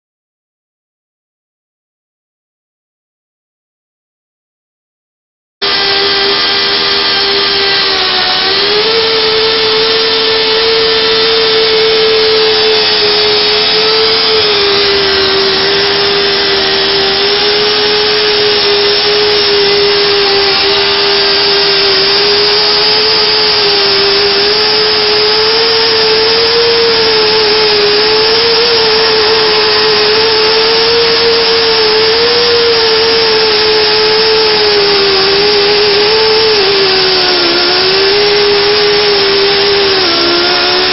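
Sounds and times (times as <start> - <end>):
pipe cutting tool whining: 5.6 - 40.9.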